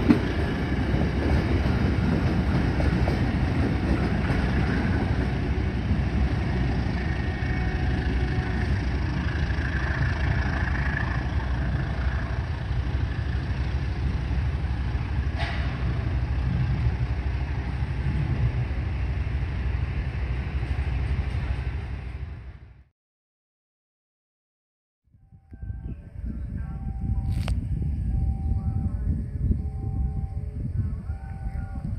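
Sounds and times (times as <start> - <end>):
diesel locomotive rumbling: 0.0 - 22.9, 25.2 - 31.9.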